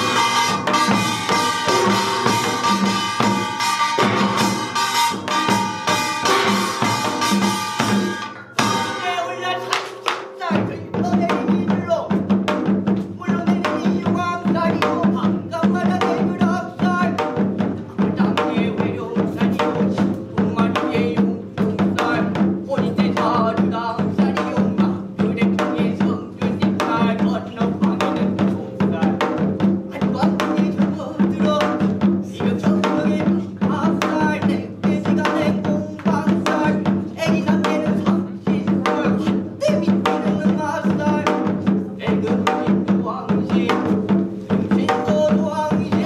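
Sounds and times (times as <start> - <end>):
lead singer chanting: 0.0 - 12.3, 13.0 - 46.0
drums playing steady rhythm: 0.0 - 46.0.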